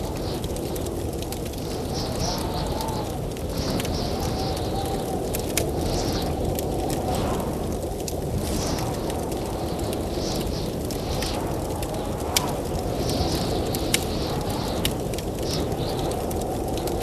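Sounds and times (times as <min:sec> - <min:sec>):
blizzard wind blowing: 0:00.0 - 0:17.0
wood fire crackling and popping: 0:00.0 - 0:17.0.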